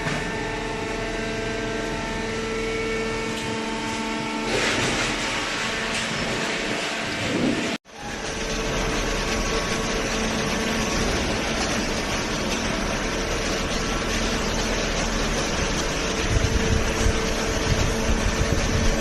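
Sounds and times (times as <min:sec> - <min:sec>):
hydraulic pump humming: 0:00.0 - 0:19.0.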